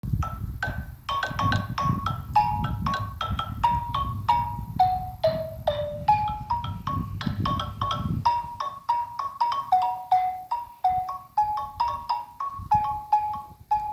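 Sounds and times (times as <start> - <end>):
xylophone melody: 0.2 - 13.9.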